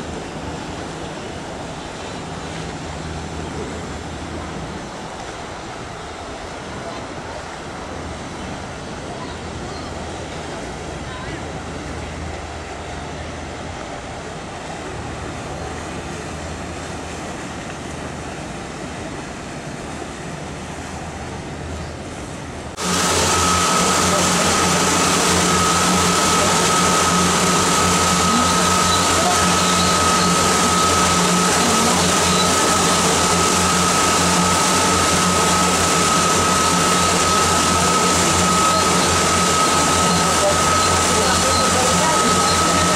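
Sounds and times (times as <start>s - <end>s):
boat engine running: 0.0s - 42.9s
rushing water: 0.0s - 42.9s
wind: 0.0s - 42.9s.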